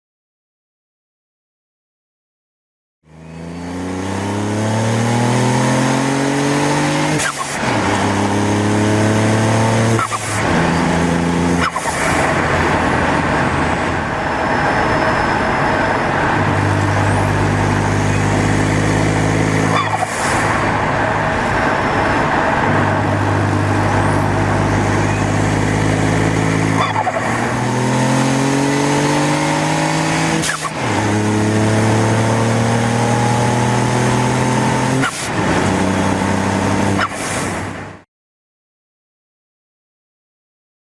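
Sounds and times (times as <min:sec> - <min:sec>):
car engine revving through gears: 0:03.1 - 0:38.0.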